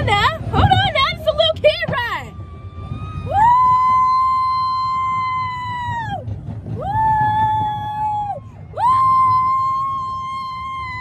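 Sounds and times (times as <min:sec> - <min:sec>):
low rumbling noise: 0:00.0 - 0:11.0.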